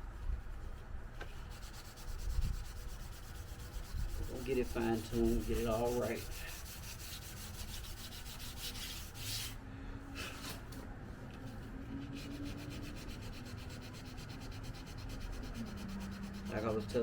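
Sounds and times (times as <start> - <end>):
sandpaper rubbing on paint: 1.4 - 9.6, 11.5 - 17.0.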